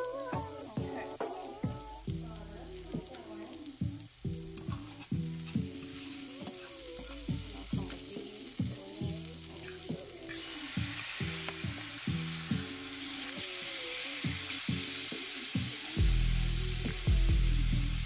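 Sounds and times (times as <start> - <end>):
background music with beat: 0.0 - 18.0
food sizzling in frying pan: 0.0 - 18.0.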